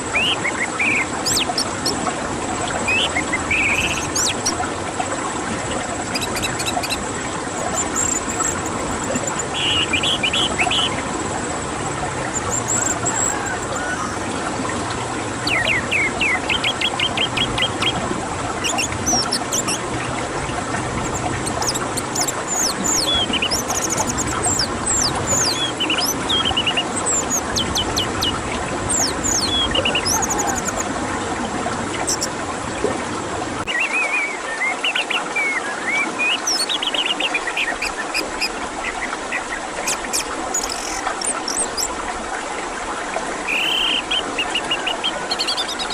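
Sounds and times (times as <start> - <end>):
songbirds singing: 0.0 - 4.7, 6.0 - 31.0, 31.9 - 32.3, 33.6 - 42.0, 43.4 - 45.9.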